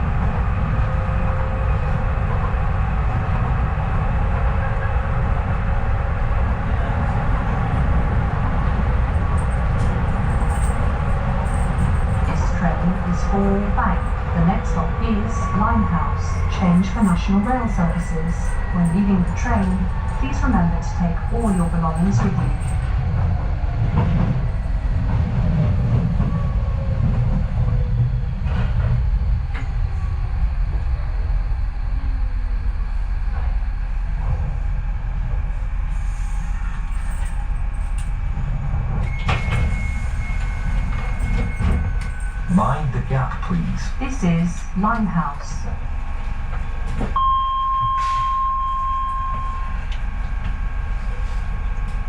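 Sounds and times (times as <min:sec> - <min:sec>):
train wheels rumbling on track: 0:00.0 - 0:47.2.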